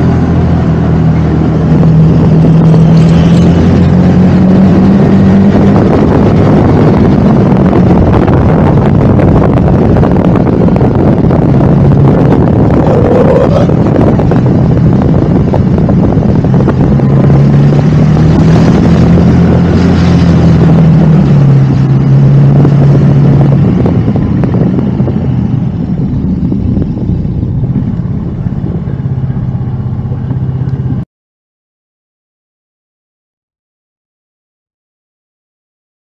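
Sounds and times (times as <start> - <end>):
vehicle engine running: 0.0 - 31.0
wind noise on microphone: 0.0 - 31.0.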